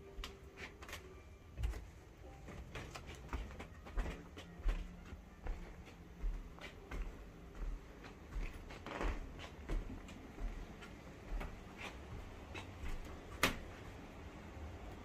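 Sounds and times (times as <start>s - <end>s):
footsteps on wooden floors: 0.0s - 14.0s.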